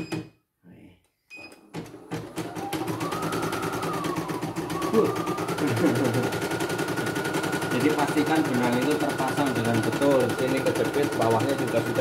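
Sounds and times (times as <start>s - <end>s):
embroidery machine stitching: 1.7s - 12.0s.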